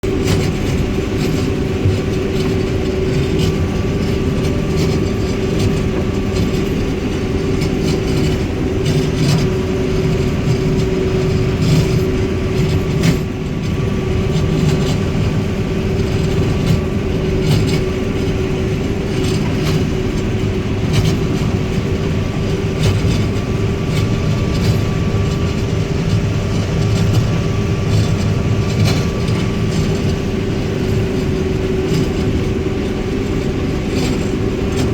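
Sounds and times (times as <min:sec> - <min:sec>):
combine harvester running: 0:00.0 - 0:34.9.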